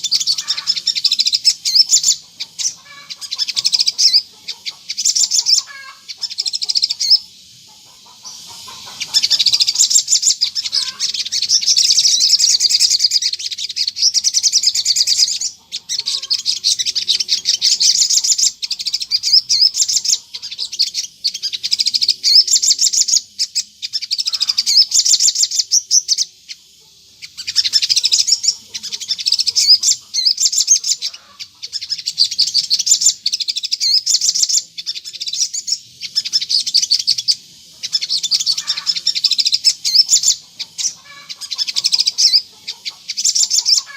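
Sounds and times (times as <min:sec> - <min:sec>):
bird chattering trills: 0:00.0 - 0:43.9.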